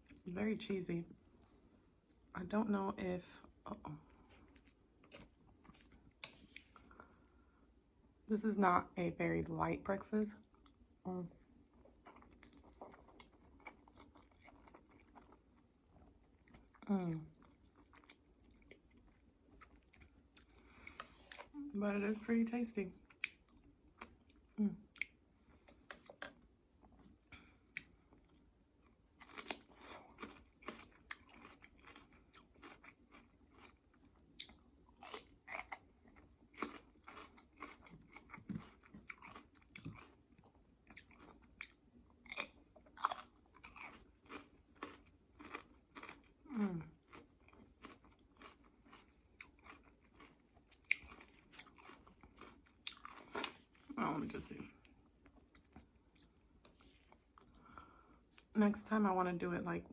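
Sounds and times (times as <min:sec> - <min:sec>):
person chewing and crunching food: 0:03.3 - 0:07.8, 0:10.3 - 0:21.7, 0:23.0 - 0:58.5.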